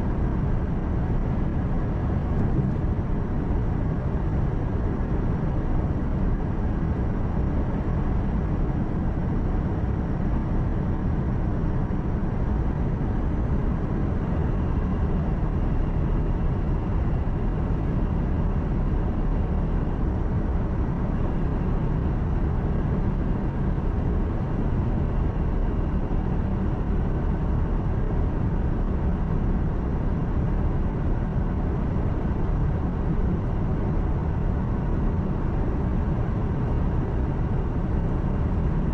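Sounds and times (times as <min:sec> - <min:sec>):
truck engine drone from cab: 0:00.0 - 0:38.9.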